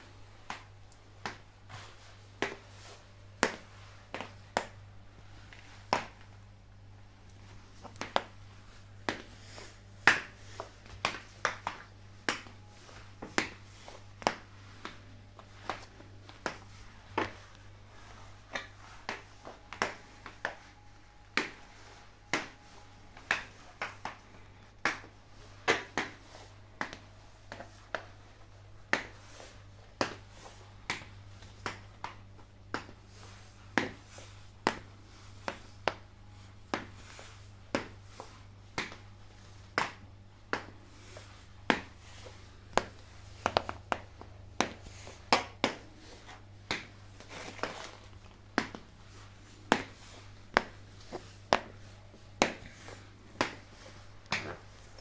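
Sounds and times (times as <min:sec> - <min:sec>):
high heels clicking on tile: 0:07.2 - 0:33.1, 0:33.7 - 0:55.0.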